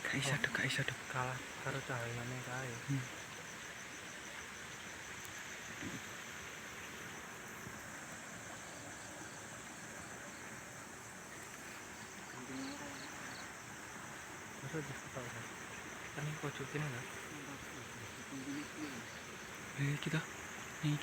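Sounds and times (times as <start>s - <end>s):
insects chirping: 0.0s - 21.0s
steady background hiss: 0.0s - 21.0s.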